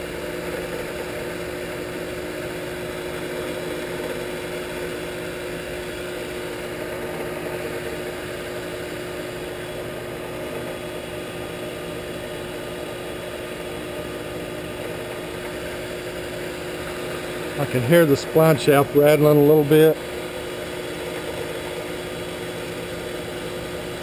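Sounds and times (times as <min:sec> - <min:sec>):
belt-driven motor spinning: 0:00.0 - 0:24.0.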